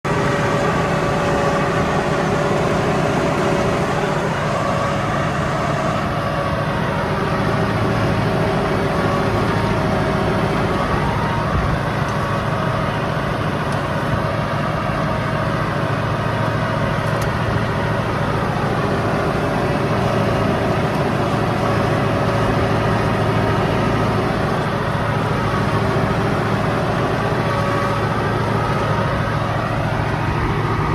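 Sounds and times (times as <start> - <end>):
tractor engine running under load: 0.0 - 30.9.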